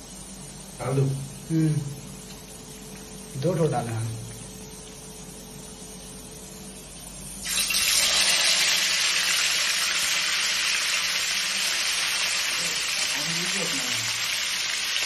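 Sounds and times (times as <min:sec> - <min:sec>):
hot oil sizzling in a frying pan: 0:00.0 - 0:15.0.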